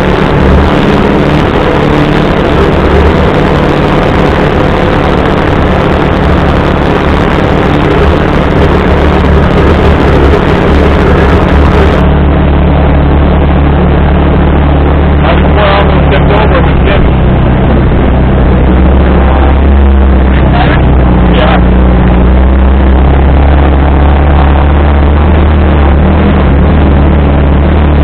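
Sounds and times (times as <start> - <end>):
utility vehicle engine droning: 0.0 - 28.0.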